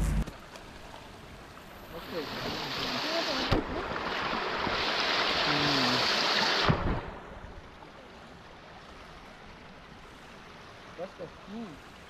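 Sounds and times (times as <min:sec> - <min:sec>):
faint flowing water: 0:00.0 - 0:12.0
rushing water: 0:00.0 - 0:12.0.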